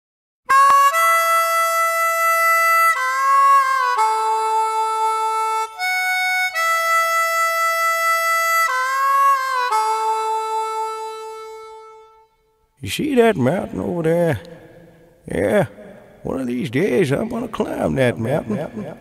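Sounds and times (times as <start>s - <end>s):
harmonica slow melody: 0.5s - 19.0s.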